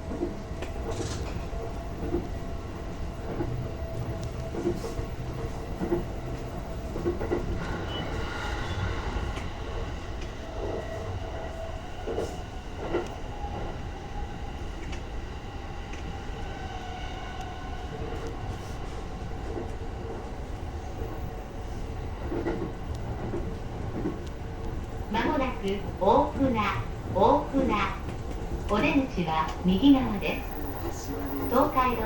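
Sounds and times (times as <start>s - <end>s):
electric train rumbling on track: 0.0s - 32.0s.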